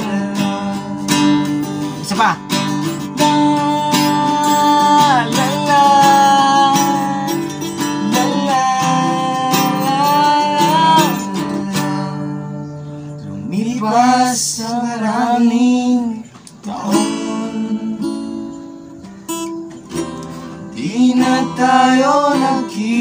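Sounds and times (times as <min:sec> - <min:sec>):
acoustic guitar strumming: 0:00.0 - 0:23.0
voices singing: 0:00.0 - 0:23.0.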